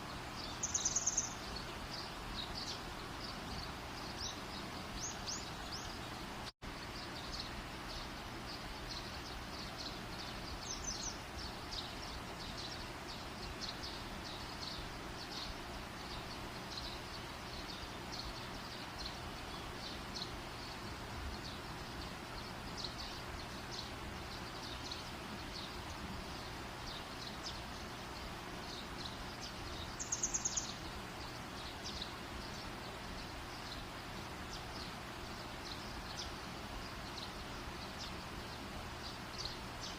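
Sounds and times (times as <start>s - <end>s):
high wildlife chirps: 0.0s - 6.2s, 6.9s - 39.9s.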